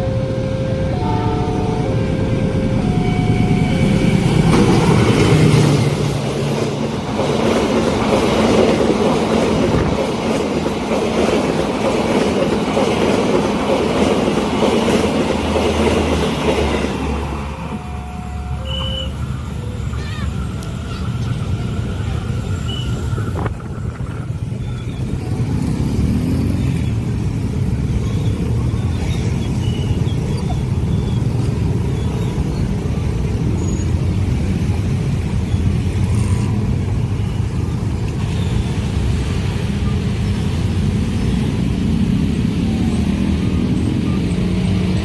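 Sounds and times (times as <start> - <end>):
rumble of passing vehicles: 0.0 - 45.0.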